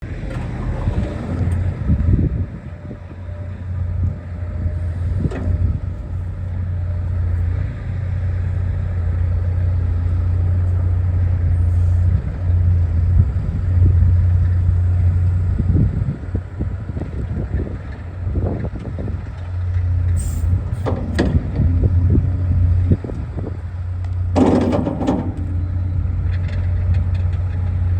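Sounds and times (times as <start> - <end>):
excavator diesel engine humming: 0.0 - 27.9.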